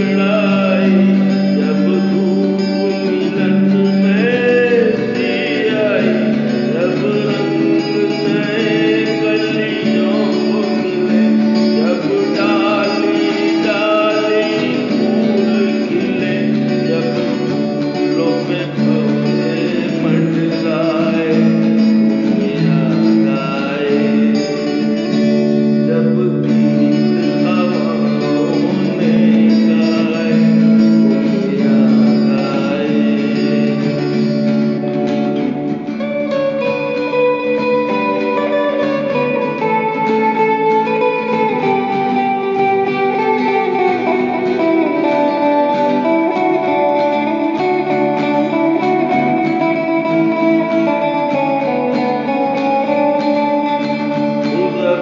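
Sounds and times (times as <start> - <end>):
man singing: 0.0 - 55.0
strummed acoustic guitar: 0.0 - 55.0.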